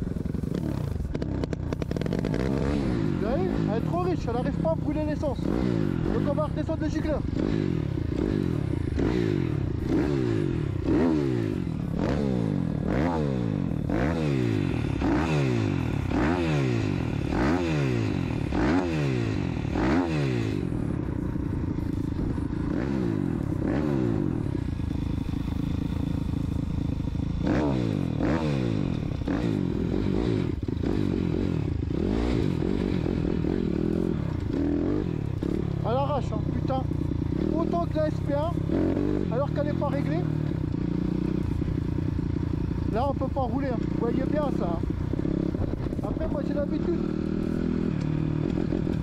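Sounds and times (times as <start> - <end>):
motorbike engine revving: 0.0 - 49.0.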